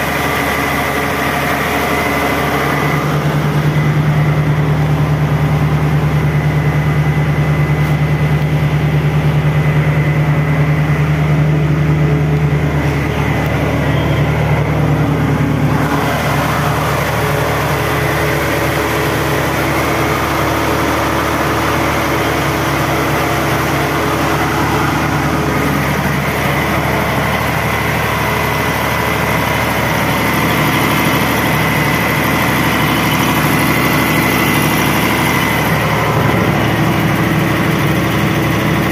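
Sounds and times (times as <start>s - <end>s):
diesel generator engine running: 0.0s - 38.9s.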